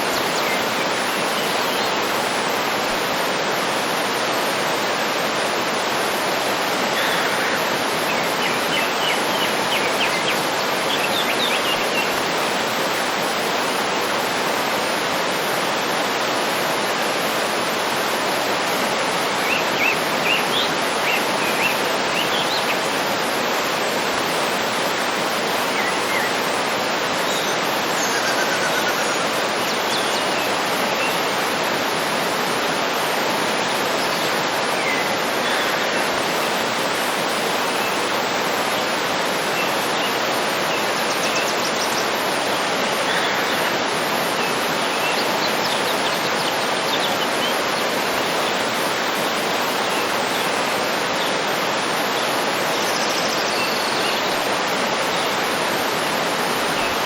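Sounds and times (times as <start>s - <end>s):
waterfall rushing: 0.0s - 57.0s
faint bird chirps and trills: 5.4s - 15.0s, 15.7s - 57.0s.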